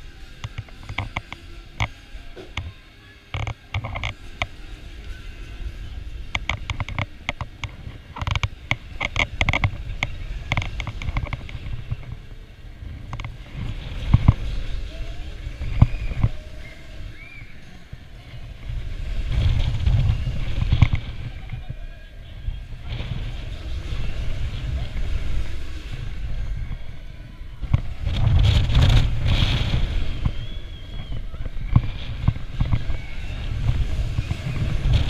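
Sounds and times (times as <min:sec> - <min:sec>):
low rumble of disc on track: 0:00.0 - 0:35.0
ride rattles and clicks: 0:00.0 - 0:35.0.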